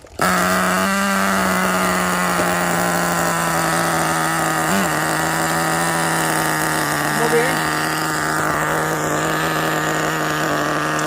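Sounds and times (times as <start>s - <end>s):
small model engine idling: 0.0s - 11.0s.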